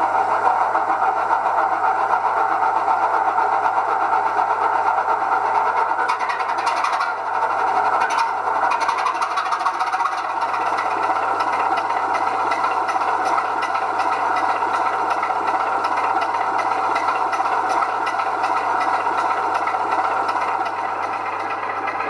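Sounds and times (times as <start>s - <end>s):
model locomotive droning and rattling: 0.0s - 22.0s.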